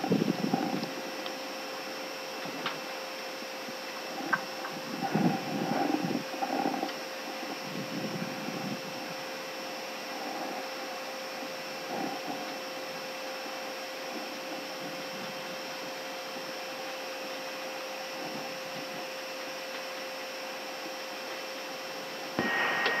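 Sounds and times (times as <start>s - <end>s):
air-conditioning hiss: 0.0s - 23.0s
faint steady whining tones: 0.0s - 23.0s.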